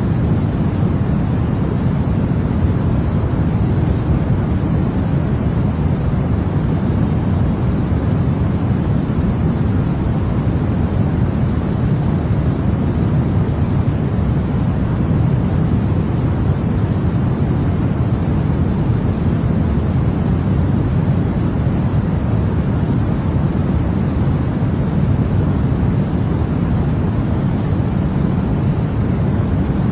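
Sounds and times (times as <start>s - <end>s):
deep white noise: 0.0s - 29.9s.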